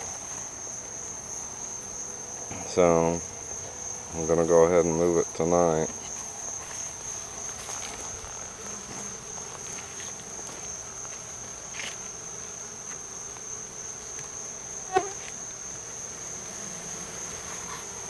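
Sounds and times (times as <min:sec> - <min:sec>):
crickets chirping: 0:00.0 - 0:18.0
honeybees humming: 0:00.0 - 0:18.0.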